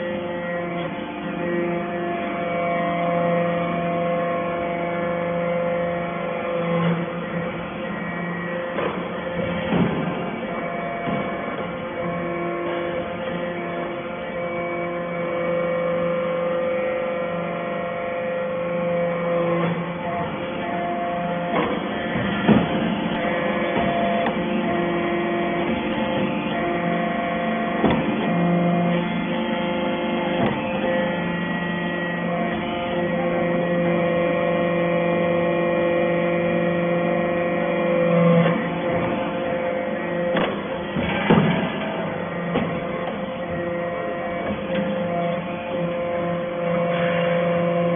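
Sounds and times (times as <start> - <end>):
hydraulic pump motor hum: 0.0 - 47.9.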